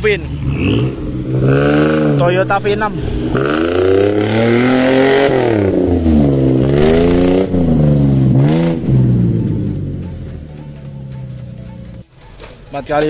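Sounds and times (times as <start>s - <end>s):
off-road vehicle engine revving: 0.0s - 12.1s.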